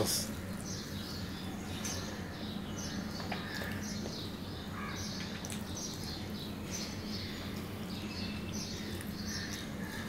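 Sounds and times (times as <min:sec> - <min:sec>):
birds chirping: 0:00.0 - 0:10.0
low electrical hum: 0:00.0 - 0:10.0.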